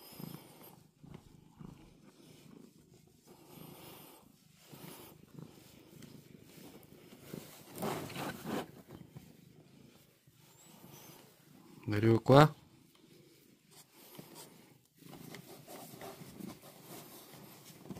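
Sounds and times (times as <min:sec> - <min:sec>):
cat purring: 0:00.0 - 0:17.9.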